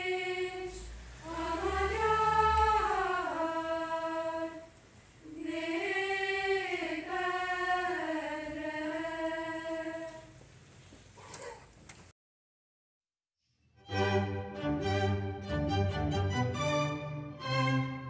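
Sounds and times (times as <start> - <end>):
choir singing a cappella: 0.0 - 10.4, 13.9 - 18.0.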